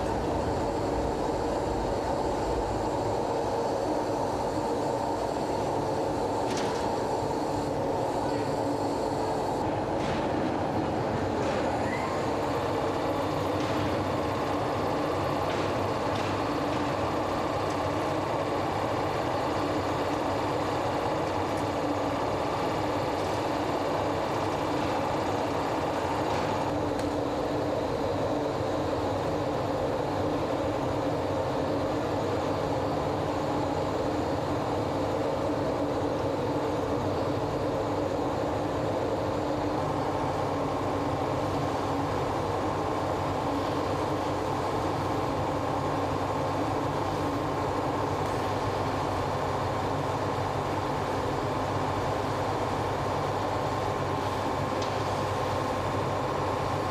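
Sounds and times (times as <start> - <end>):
steady multi-tone hum: 0.0 - 56.9.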